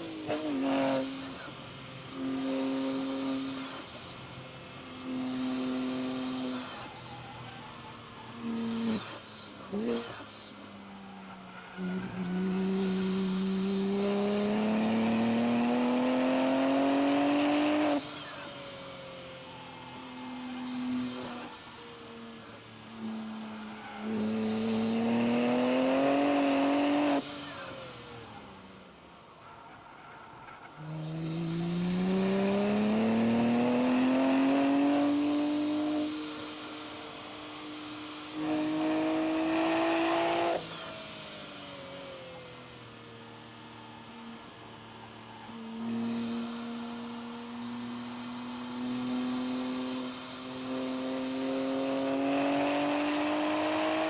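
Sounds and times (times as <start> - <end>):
car engine at full throttle: 0.0 - 54.0.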